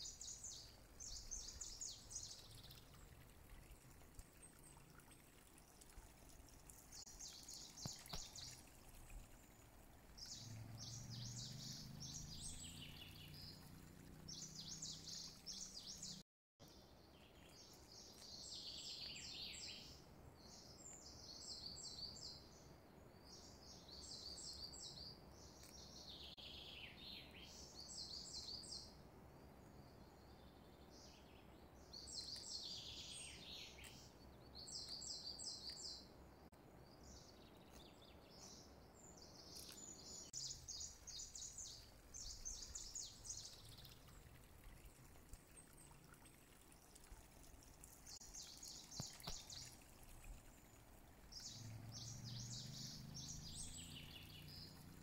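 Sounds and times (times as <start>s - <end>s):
faint bird chirping: 0.0s - 55.0s.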